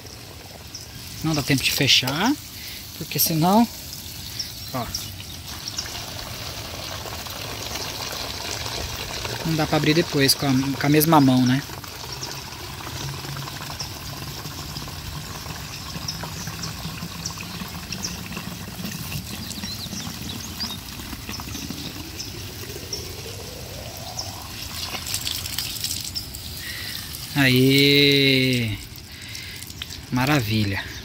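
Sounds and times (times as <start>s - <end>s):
water pouring into a bottle: 0.0s - 31.0s.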